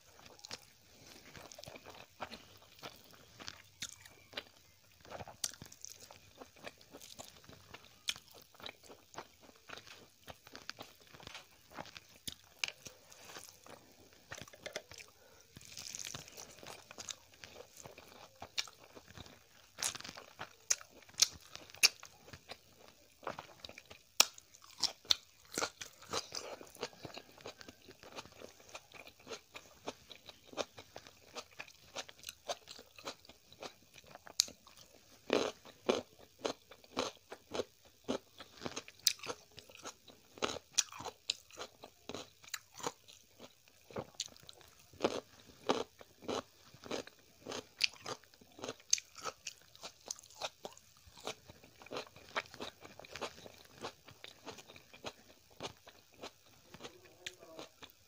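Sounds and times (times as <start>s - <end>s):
close chewing and biting food: 0.0s - 58.0s.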